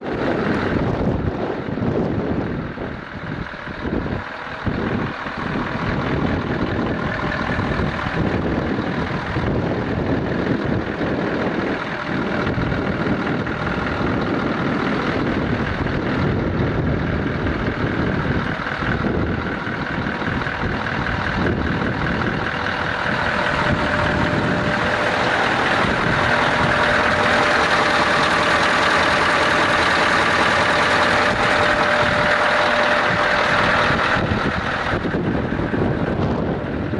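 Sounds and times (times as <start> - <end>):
truck diesel engine running: 0.0 - 36.9
steady whine: 3.0 - 36.9.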